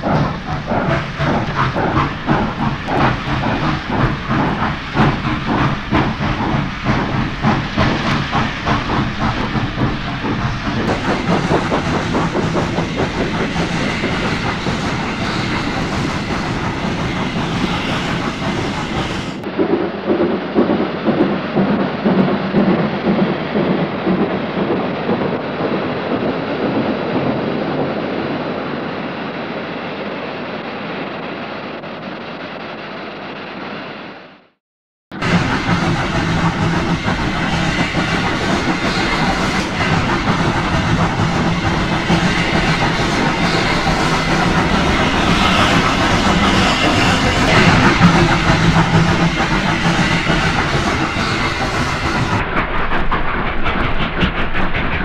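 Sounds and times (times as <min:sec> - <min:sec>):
steam locomotives hauling train: 0:00.0 - 0:55.0.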